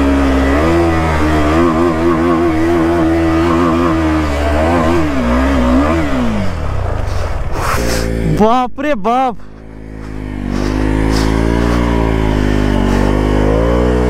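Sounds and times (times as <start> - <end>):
motorcycle engine revving high: 0.0 - 8.7, 9.4 - 14.0.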